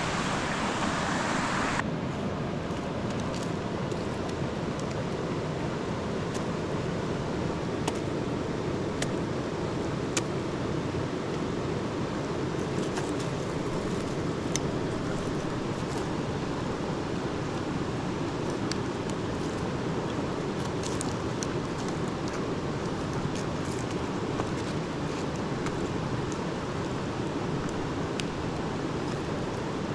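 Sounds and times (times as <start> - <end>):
river rushing: 0.0 - 29.9.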